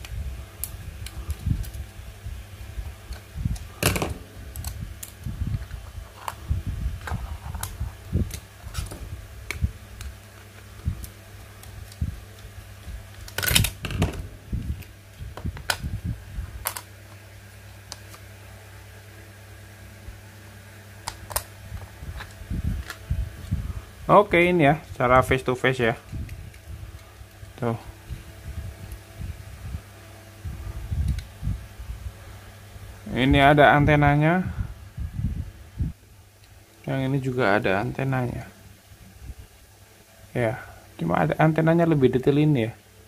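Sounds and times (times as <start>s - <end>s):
fan humming: 0.0s - 43.0s.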